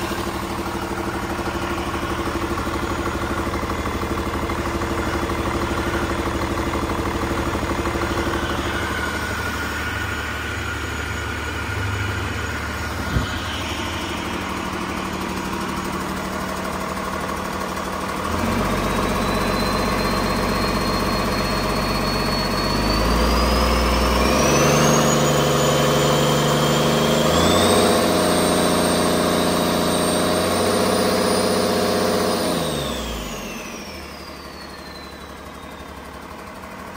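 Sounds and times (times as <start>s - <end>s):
diesel engine revving: 0.0s - 36.9s
high turbocharger whine: 0.0s - 36.9s.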